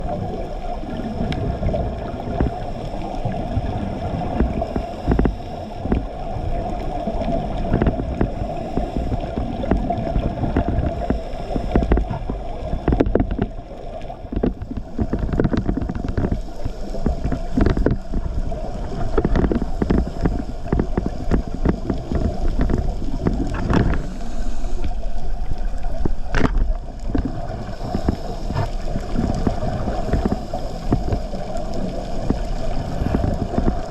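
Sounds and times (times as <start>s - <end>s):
regulator bubbling and crackle: 0.0s - 33.9s
steady underwater hum: 0.0s - 33.9s.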